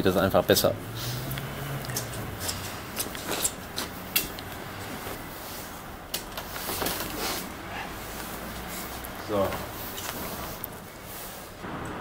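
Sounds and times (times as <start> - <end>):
rustling: 1.0 - 11.6.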